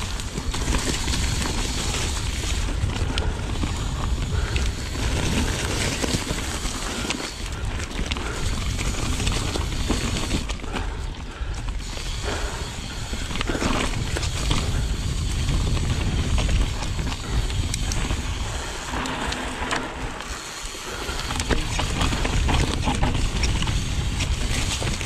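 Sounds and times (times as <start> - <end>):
bike rattling: 0.0 - 25.0
tyres rolling over dirt: 0.0 - 25.0
wind buffeting microphone: 0.0 - 25.0.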